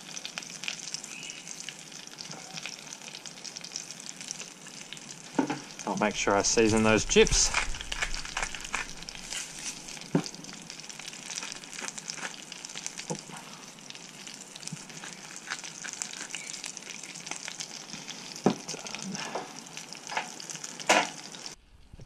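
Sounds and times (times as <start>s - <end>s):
fish frying in oil: 0.0s - 21.6s.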